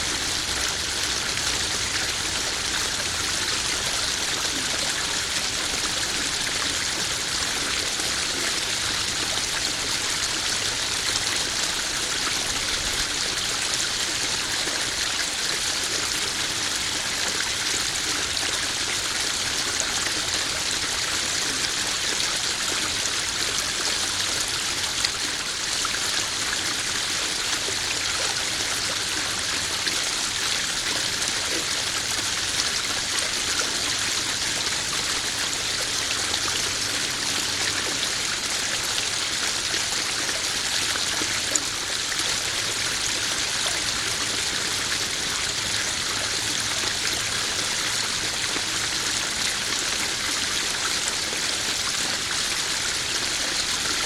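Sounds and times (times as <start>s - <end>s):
waterfall trickling into pond: 0.0s - 54.0s.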